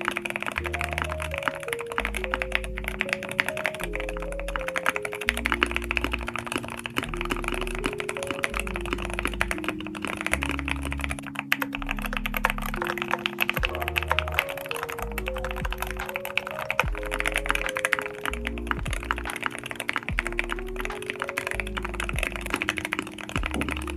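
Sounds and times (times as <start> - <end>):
mechanical keyboard typing: 0.0 - 23.9
synth and bass music: 0.0 - 23.9.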